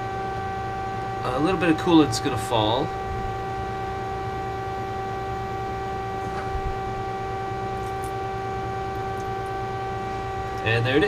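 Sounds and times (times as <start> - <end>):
shop machinery hum: 0.0 - 11.0.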